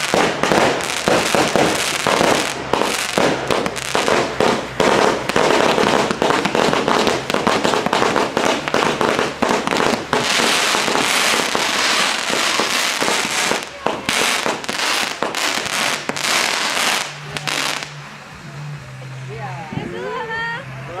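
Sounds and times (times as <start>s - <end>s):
fireworks banging and crackling: 0.0s - 19.1s.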